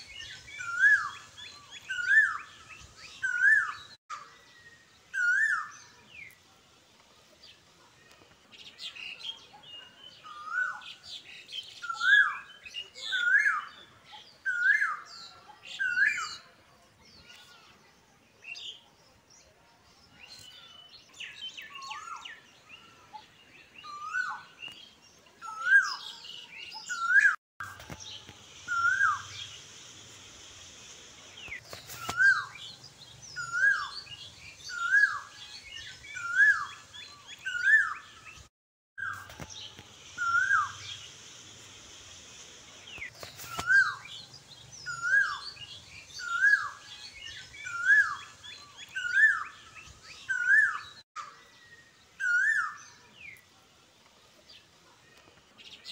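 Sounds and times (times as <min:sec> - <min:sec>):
birds chirping faintly: 0:00.0 - 0:55.9.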